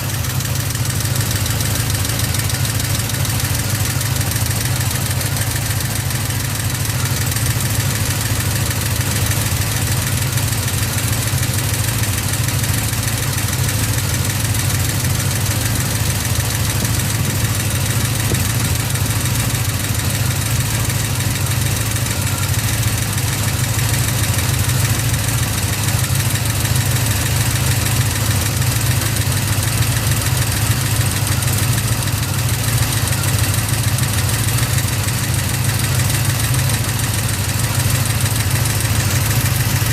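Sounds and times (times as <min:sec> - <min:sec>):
engine idling: 0:00.0 - 0:39.9
fine engine ticking: 0:00.0 - 0:39.9.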